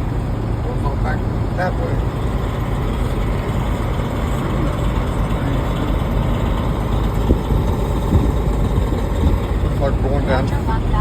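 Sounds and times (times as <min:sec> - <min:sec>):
road noise: 0:00.0 - 0:11.0
truck diesel engine: 0:00.0 - 0:11.0.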